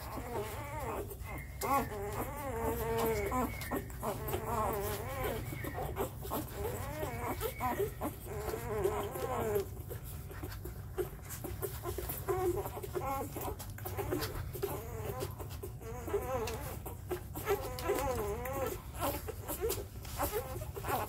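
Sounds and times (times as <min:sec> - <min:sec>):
puppies squeaking and whining: 0:00.0 - 0:21.0.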